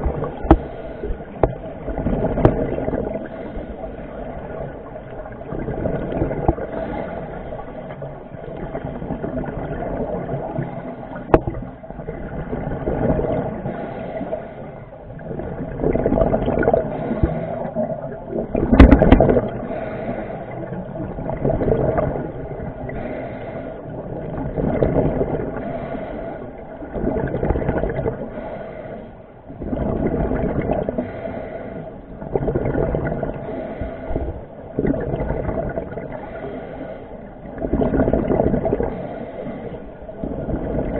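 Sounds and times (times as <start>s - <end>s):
underwater bubbling and gurgling: 0.0s - 40.9s.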